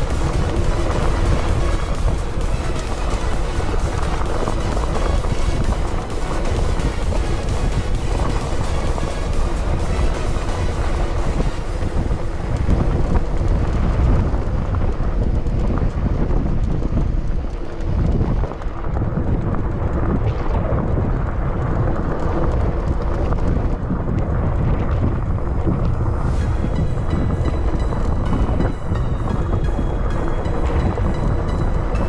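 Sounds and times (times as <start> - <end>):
mountain bike rolling on gravel: 0.0 - 32.0
wind buffeting microphone: 0.0 - 32.0.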